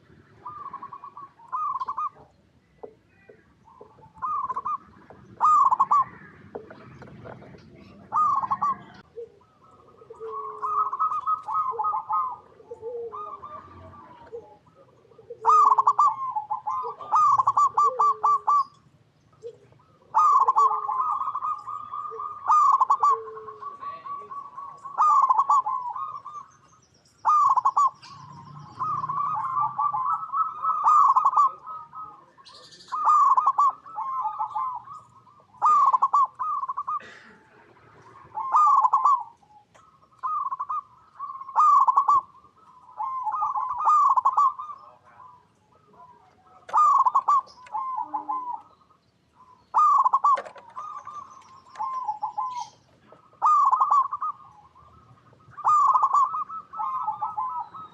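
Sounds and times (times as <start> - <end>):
doves cooing: 0.0 - 57.9.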